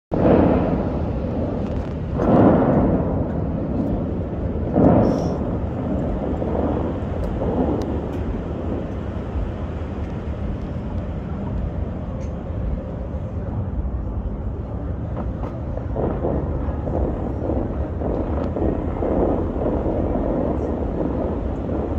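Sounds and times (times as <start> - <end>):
distant traffic: 0.1 - 21.9
wind rumble: 0.1 - 21.9.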